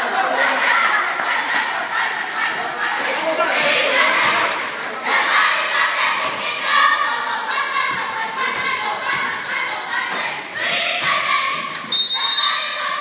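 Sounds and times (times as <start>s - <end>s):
spectators chattering and calling out: 0.0s - 13.0s.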